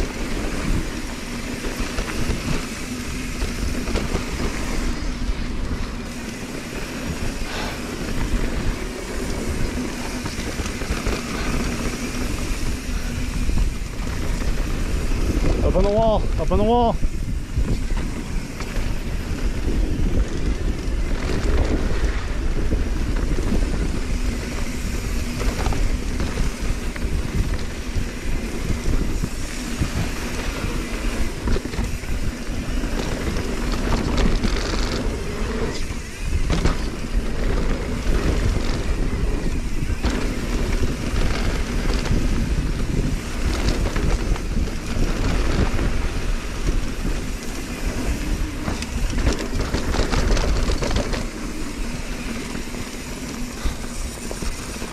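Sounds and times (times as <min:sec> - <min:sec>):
bike knocks and rattles: 0:00.0 - 0:54.9
tyres rolling over dirt: 0:00.0 - 0:54.9
wind buffeting microphone: 0:00.0 - 0:54.9.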